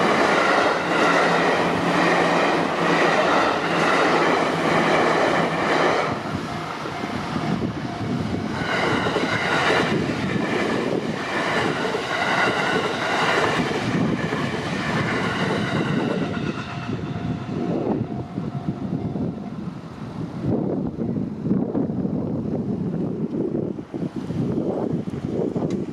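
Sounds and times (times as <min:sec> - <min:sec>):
electric train rumbling on track: 0:00.0 - 0:25.9.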